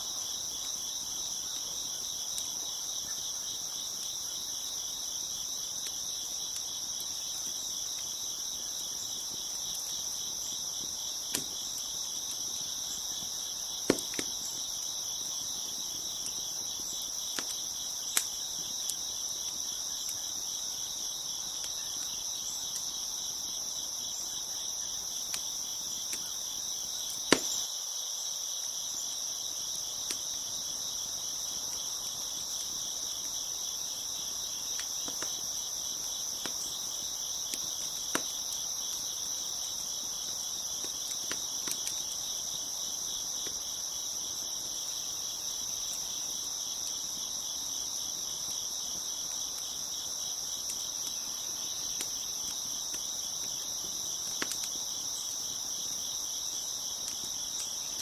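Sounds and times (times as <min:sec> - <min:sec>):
crickets chirping: 0:00.0 - 0:58.0
wood fire popping: 0:00.1 - 0:27.6, 0:29.7 - 0:58.0.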